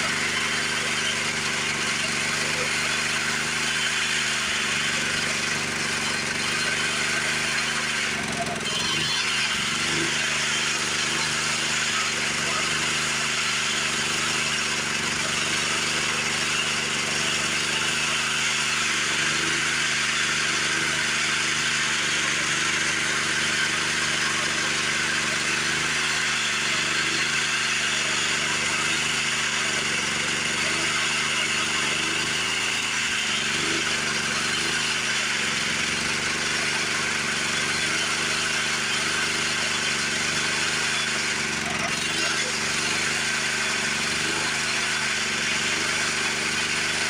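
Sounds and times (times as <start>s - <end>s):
saw cutting log: 0.0s - 47.0s
sawmill engine drone: 0.0s - 47.0s.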